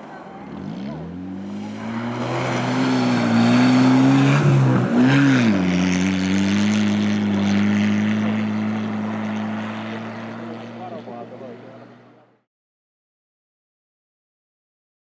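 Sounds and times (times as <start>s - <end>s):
rally car engine at full throttle: 0.0s - 12.4s
road noise: 0.0s - 12.5s.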